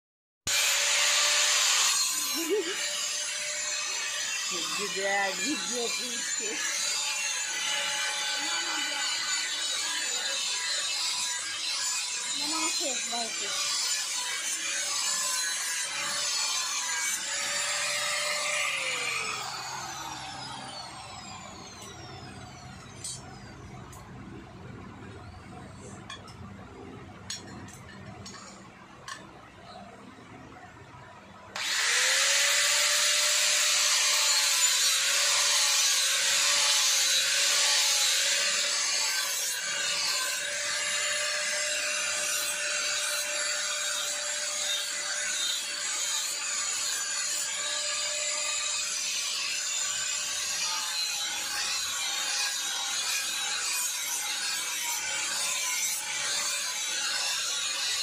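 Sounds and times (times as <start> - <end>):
angle grinder grinding steel: 0.5 - 24.1, 31.6 - 58.0.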